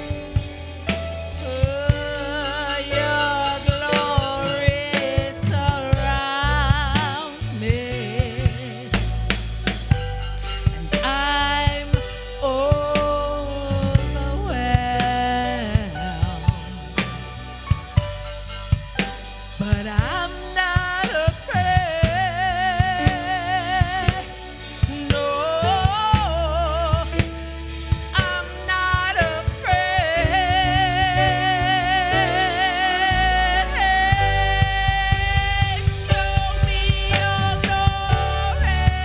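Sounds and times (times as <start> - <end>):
bass: 0.0 - 39.0
drum kit and percussion: 0.0 - 39.0
keyboard chords: 0.0 - 39.0
solo singer with vibrato: 0.0 - 39.0.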